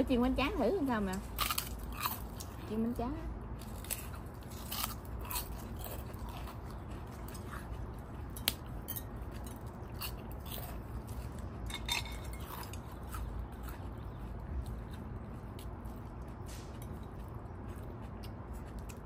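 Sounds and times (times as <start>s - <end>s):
chewing and biting: 1.2s - 2.8s, 3.4s - 19.0s
crisp crackers crunching: 1.3s - 2.6s, 3.5s - 19.0s.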